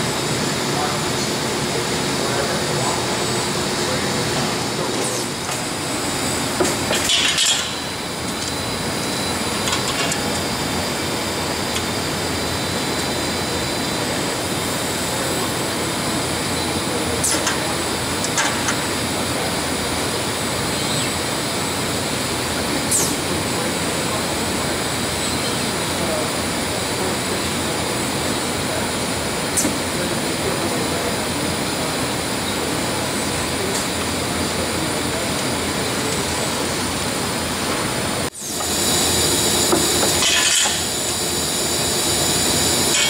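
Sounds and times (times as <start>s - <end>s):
machine running: 0.0s - 43.0s.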